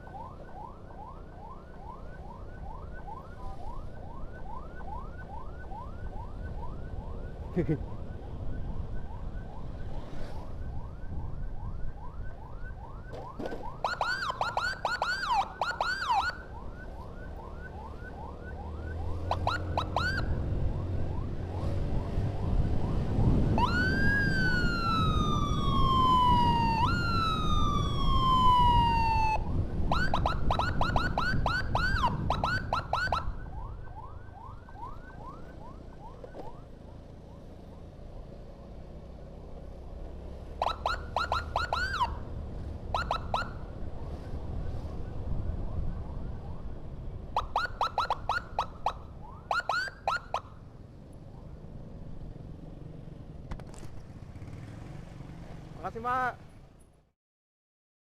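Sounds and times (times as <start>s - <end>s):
ambulance siren: 0.0s - 51.8s
low vehicle rumble: 0.0s - 55.8s.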